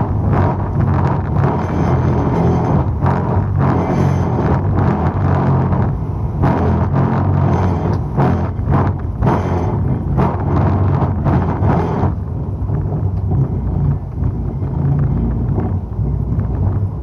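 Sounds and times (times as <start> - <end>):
boat engine running: 0.0 - 17.0
rushing noise bursts: 0.0 - 17.0.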